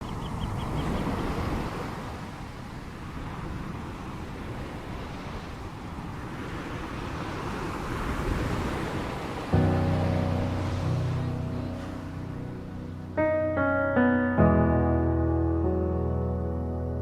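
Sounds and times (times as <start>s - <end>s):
sea waves washing on shore: 0.0s - 14.2s.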